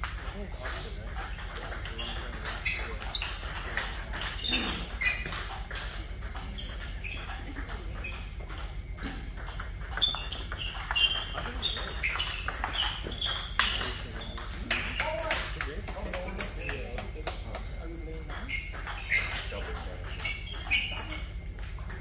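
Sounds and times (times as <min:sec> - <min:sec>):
table tennis ball hits: 0:01.1 - 0:22.0.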